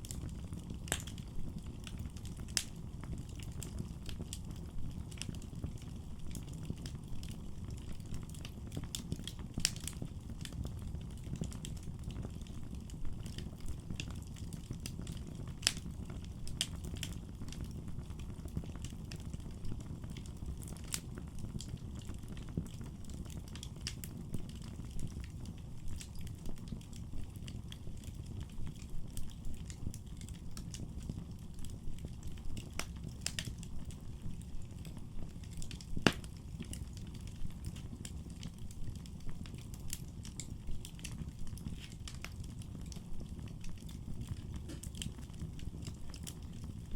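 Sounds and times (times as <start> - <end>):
low rumble of flames: 0.0 - 46.9
wood fire crackling and popping: 0.0 - 46.9.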